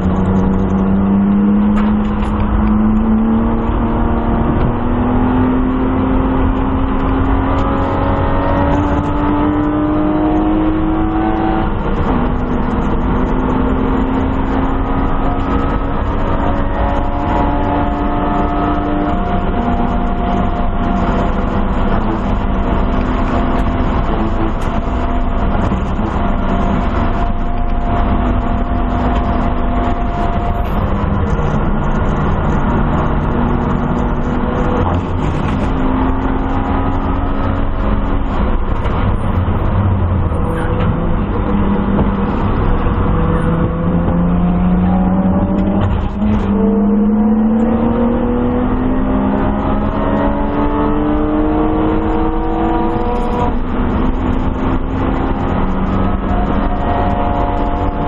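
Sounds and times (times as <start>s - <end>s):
car engine accelerating hard: 0.0s - 58.0s.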